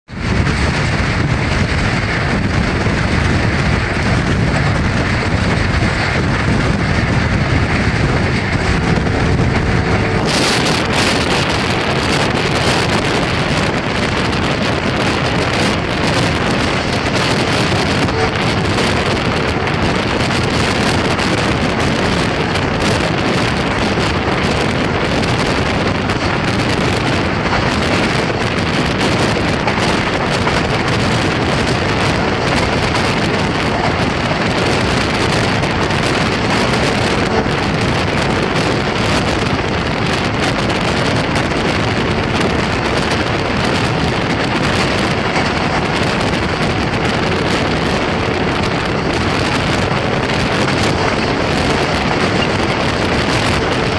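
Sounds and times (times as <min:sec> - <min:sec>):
train running at high speed: 0:00.0 - 0:53.9
wind buffeting microphone: 0:00.0 - 0:53.9.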